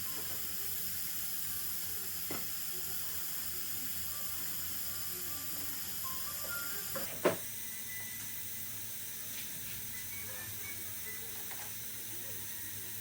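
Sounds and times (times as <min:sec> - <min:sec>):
dental equipment hiss and hum: 0:00.0 - 0:13.0.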